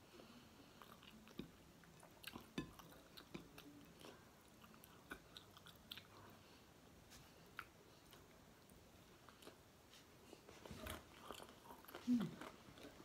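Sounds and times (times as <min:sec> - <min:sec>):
close-up chewing: 0:00.6 - 0:13.0.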